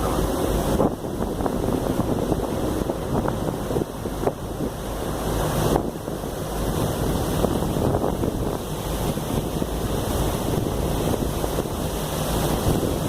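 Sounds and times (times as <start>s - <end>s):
ferry engine rumble: 0.0s - 13.0s
water washing against hull: 0.0s - 13.0s
wind buffeting microphone: 0.0s - 13.0s.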